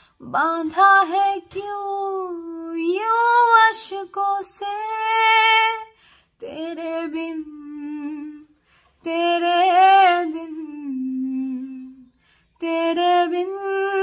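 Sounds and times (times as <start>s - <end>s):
woman singing unaccompanied: 0.2s - 14.0s.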